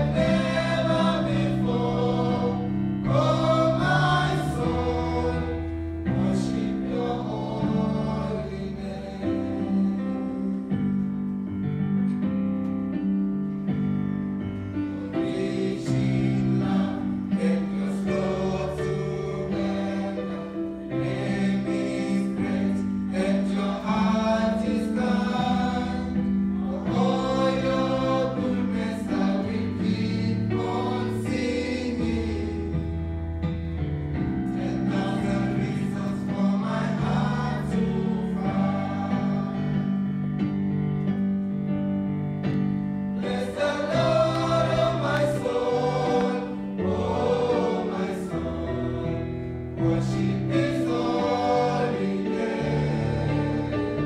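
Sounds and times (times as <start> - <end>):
choir singing gospel: 0.0 - 11.2, 13.5 - 40.8, 42.5 - 54.0.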